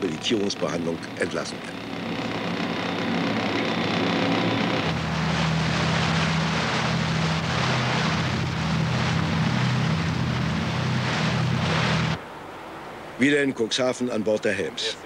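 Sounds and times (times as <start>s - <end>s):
boat engine drone: 0.0s - 13.1s
rush of wind and water: 0.0s - 15.0s.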